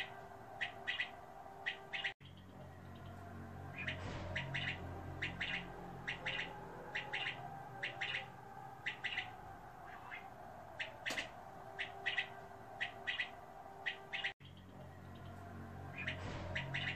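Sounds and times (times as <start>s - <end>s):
quail chirping: 0.0s - 3.2s, 3.8s - 15.4s, 16.0s - 16.9s
low hum: 2.2s - 16.9s.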